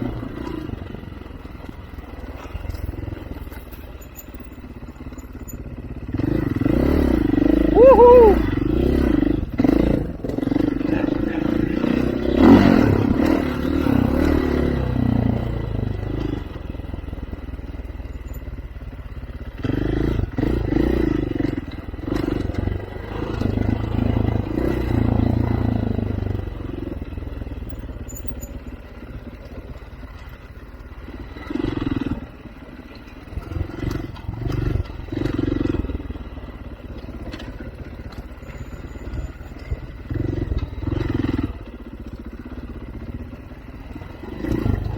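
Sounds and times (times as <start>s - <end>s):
off-road vehicle engine revving: 0.0s - 18.1s, 19.2s - 44.9s.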